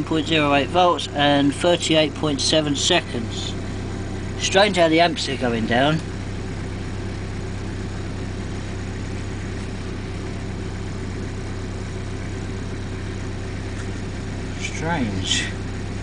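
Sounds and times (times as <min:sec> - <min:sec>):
van engine idling: 0:00.0 - 0:16.0.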